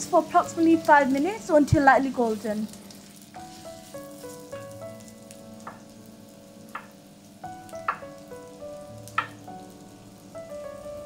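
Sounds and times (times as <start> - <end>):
onions sizzling in oil: 0.0 - 11.0
soft background music: 0.0 - 11.0.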